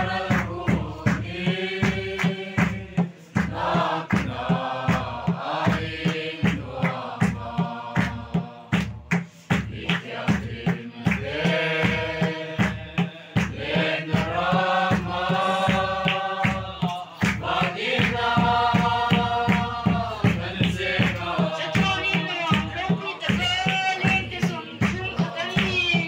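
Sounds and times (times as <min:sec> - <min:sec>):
group singing long held notes: 0:00.0 - 0:23.4, 0:24.0 - 0:26.0
large drum beaten steadily: 0:00.0 - 0:26.0.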